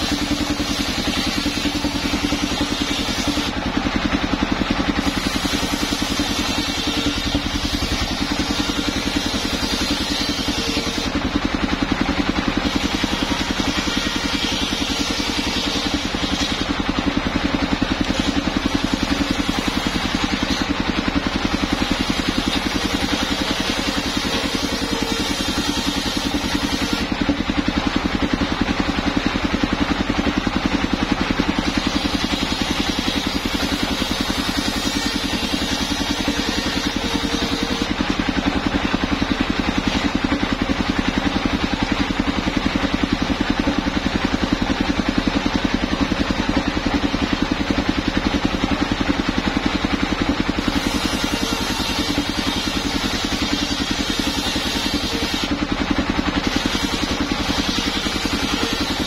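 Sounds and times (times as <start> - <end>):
sawmill engine running steadily: 0.0 - 59.0.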